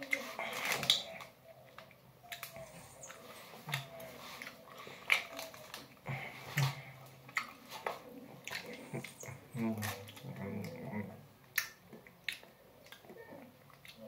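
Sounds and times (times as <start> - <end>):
wet chewing clicks and smacks: 0.0 - 14.0.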